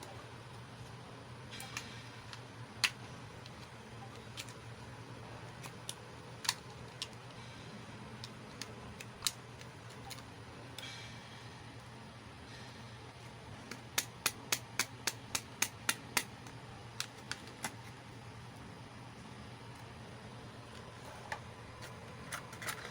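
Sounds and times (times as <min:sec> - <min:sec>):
faint low hum: 0:00.0 - 0:22.9.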